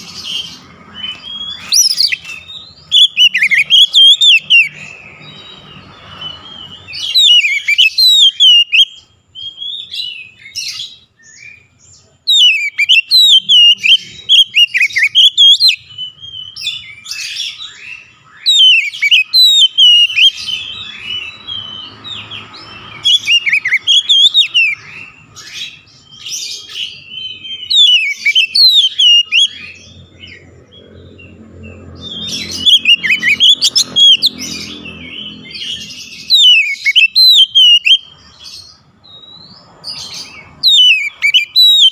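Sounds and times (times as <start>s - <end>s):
bird singing whistles and chatters: 0.0s - 41.9s.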